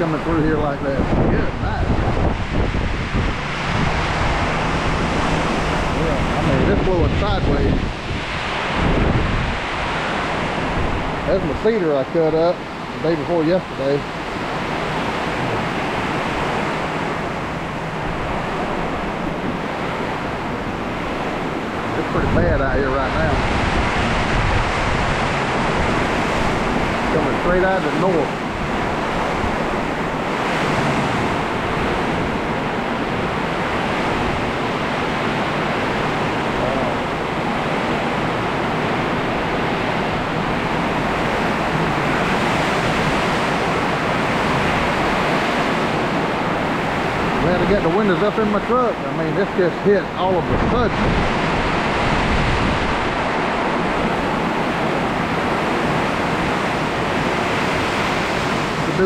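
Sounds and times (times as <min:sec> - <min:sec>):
heavy rain in wind: 0:00.0 - 0:59.0
wind buffeting microphone: 0:00.0 - 0:59.0.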